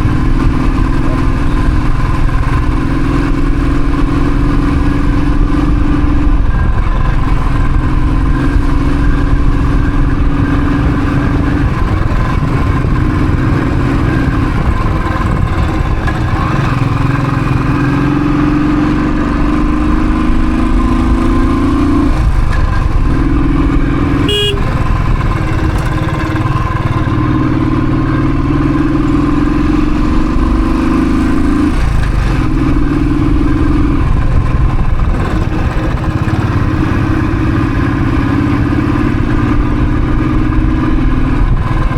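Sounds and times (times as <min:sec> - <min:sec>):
motorcycle engine accelerating: 0:00.0 - 0:41.9
wind and road noise: 0:00.0 - 0:41.9.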